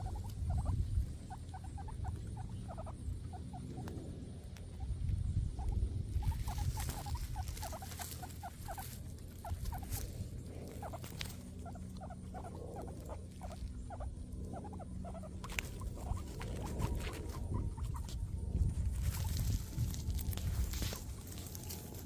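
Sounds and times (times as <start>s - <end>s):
guinea pigs chewing grass: 0.0s - 22.0s
guinea pigs squeaking: 0.0s - 22.0s.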